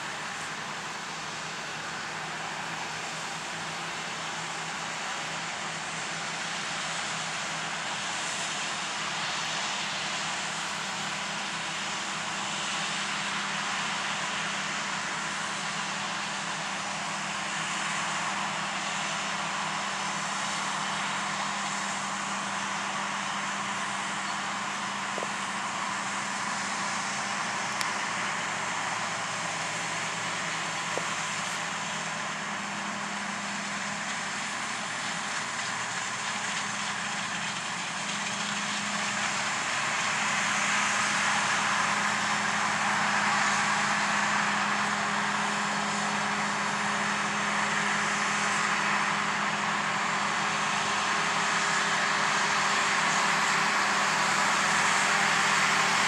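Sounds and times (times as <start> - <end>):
diesel farm machinery running: 0.0 - 56.0.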